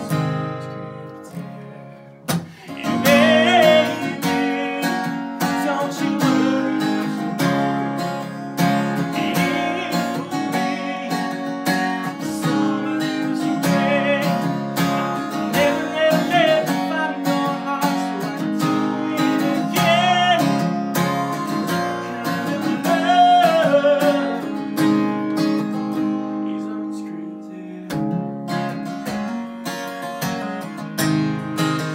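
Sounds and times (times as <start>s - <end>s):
man singing slow song: 0.0s - 28.3s
strummed acoustic guitar: 0.0s - 31.9s.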